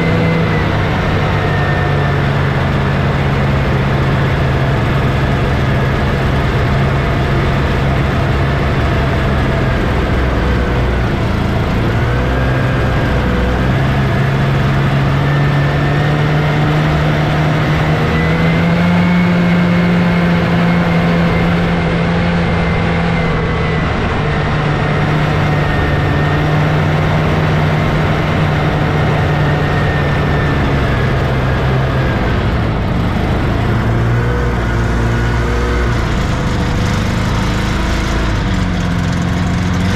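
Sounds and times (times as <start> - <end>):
snowmobile two-stroke engine running: 0.0 - 39.9.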